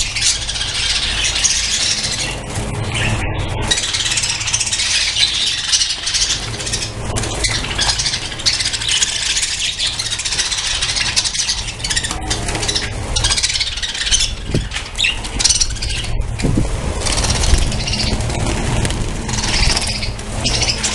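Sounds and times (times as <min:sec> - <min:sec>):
budgerigars chattering: 0:00.0 - 0:20.9
steady low rumble: 0:00.0 - 0:20.9.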